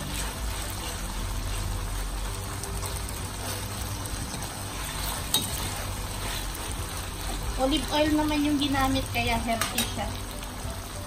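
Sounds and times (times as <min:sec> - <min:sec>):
wooden spoon stirring: 0:00.0 - 0:09.0
meat sizzling in a pan: 0:00.0 - 0:11.0.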